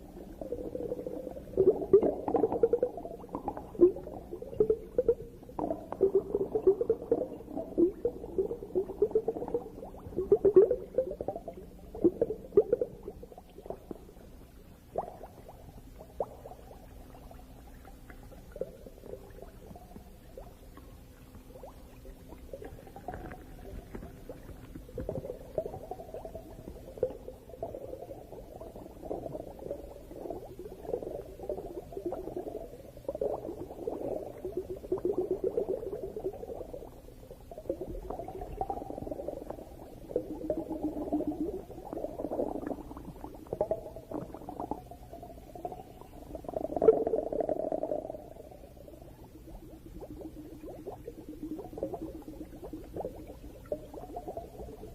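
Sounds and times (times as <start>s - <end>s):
underwater bubbling and gurgling: 0.0s - 54.9s.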